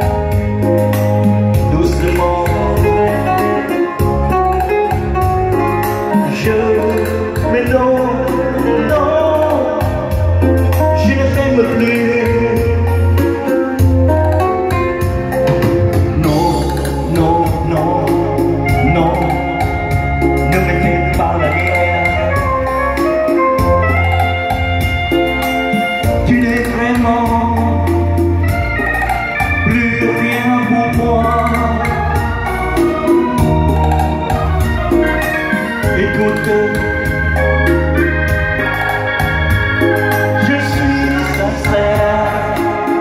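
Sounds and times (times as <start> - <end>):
held bass notes: 0.0 - 43.0
organ-like keyboard melody: 0.0 - 43.0
programmed drum beat: 0.0 - 43.0.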